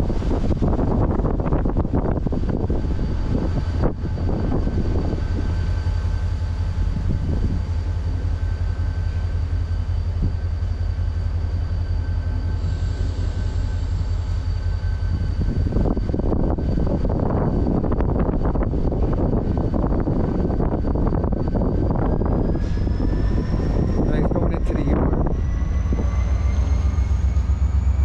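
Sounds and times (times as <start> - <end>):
distant diesel locomotive rumble: 0.0 - 28.0.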